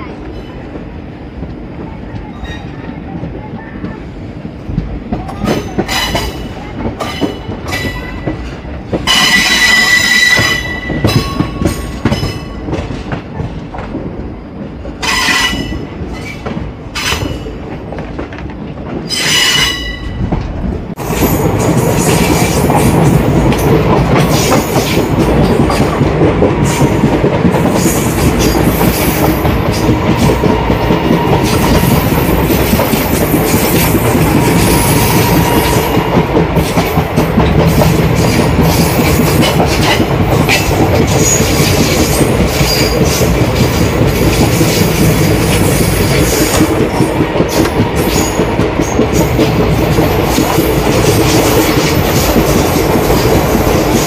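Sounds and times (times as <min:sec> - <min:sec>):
loud steady train rush: 0:00.0 - 0:54.0
train wheels rattling over track: 0:00.0 - 0:54.0.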